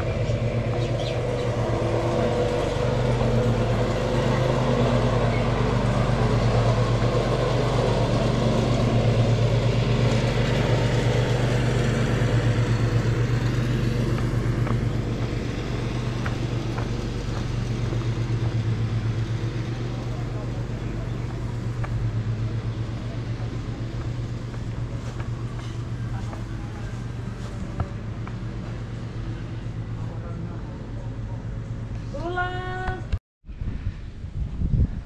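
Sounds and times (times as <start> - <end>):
motor droning: 0.0 - 32.0.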